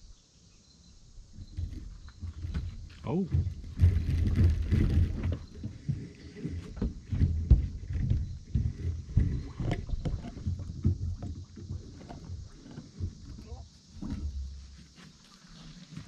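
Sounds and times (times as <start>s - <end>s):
knocks and clicks against boat: 1.4s - 15.2s.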